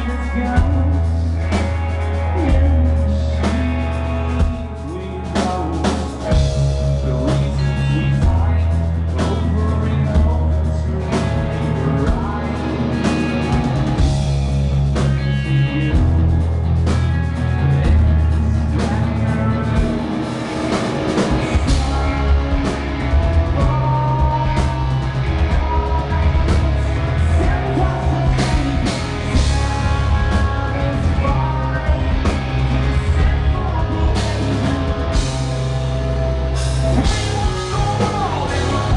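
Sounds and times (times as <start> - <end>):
man singing: 0.0 - 16.7, 17.3 - 38.9
bass guitar: 0.0 - 38.9
drum kit: 0.0 - 38.9
electric guitar: 0.0 - 38.9.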